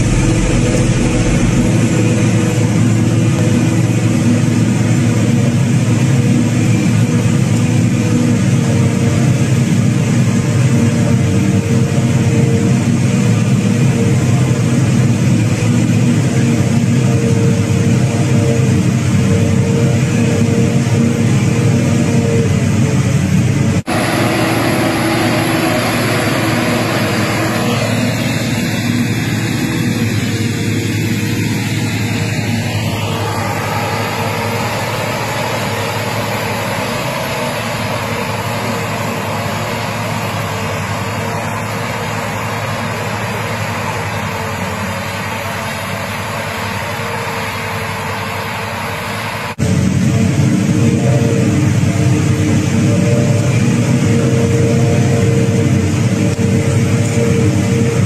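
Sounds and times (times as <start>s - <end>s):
harvester engine and machinery drone: 0.0s - 58.0s.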